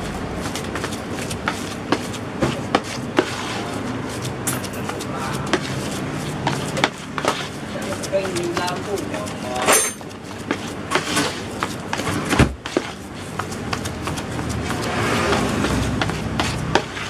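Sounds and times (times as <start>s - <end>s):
kneading dough in plastic basin: 0.0s - 17.0s
scraper scraping plastic basin: 0.0s - 17.0s.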